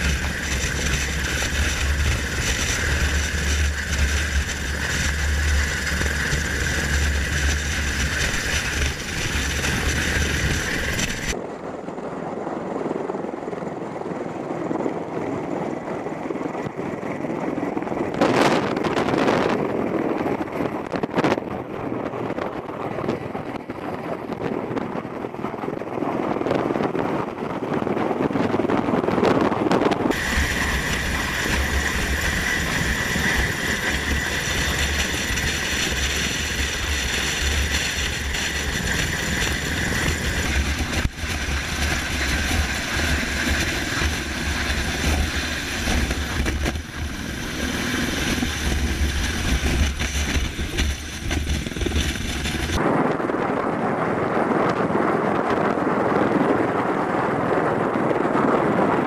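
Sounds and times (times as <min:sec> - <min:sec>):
aircraft engines and rotors running: 0:00.0 - 0:59.0
wind on microphone: 0:00.0 - 0:59.0.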